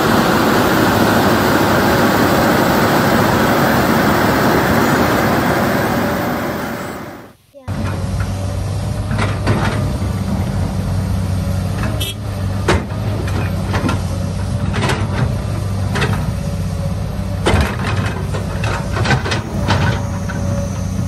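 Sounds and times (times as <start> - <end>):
low engine-like rumble: 0.0 - 21.0.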